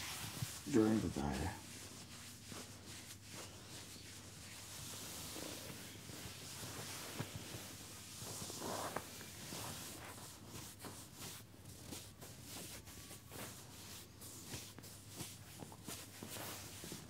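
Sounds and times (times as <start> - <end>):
hands rubbing denim: 0.0 - 17.0.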